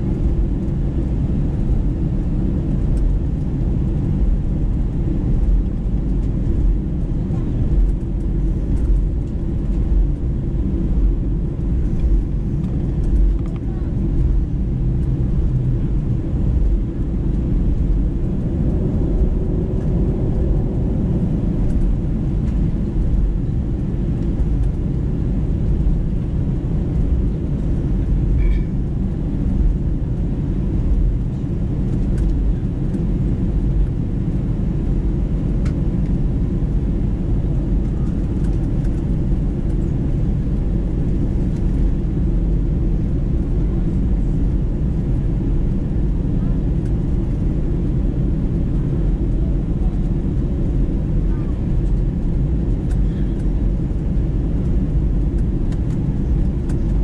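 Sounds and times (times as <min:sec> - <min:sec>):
jet engines rumbling: 0:00.0 - 0:57.0.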